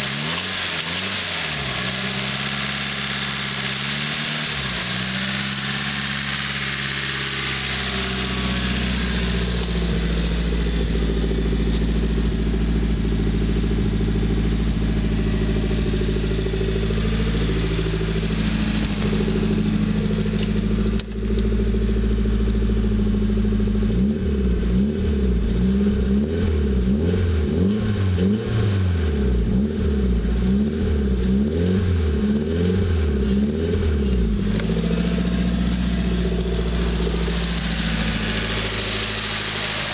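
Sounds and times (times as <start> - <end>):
car engine running and revving: 0.0 - 39.9.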